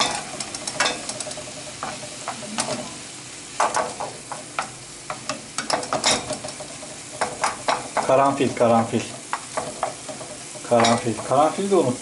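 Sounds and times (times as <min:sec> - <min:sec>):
utensil scraping and knocking pan: 0:00.0 - 0:03.0, 0:03.6 - 0:11.5
food sizzling in a frying pan: 0:00.0 - 0:12.0.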